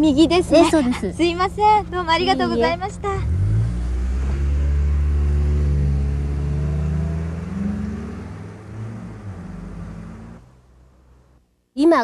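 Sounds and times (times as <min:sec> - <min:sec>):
vehicle engine humming: 0:00.0 - 0:11.4.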